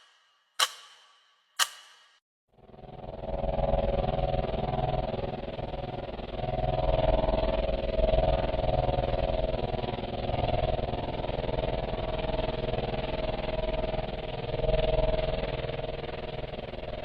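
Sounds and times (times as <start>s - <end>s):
droning hum with low rumble: 2.6s - 17.0s.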